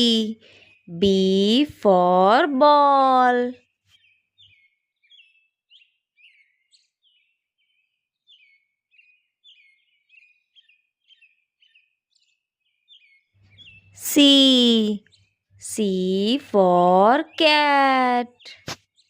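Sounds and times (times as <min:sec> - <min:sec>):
faint bird chirping: 0:00.0 - 0:19.0.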